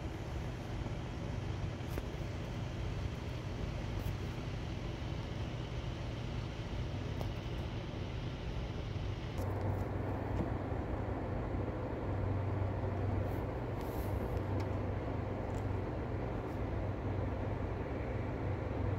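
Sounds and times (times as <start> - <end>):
distant city traffic rumble: 0.0 - 18.9.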